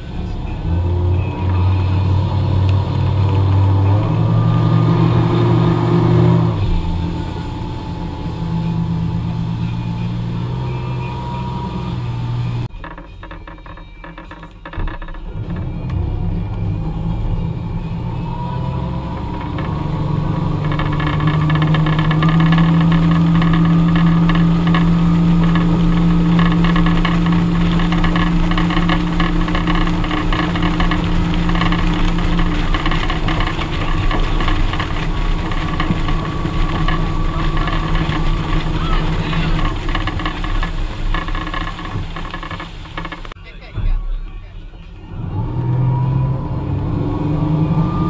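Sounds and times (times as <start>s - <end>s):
boat wake rushing: 0.0s - 12.7s, 15.0s - 44.0s
boat engine: 0.0s - 48.0s.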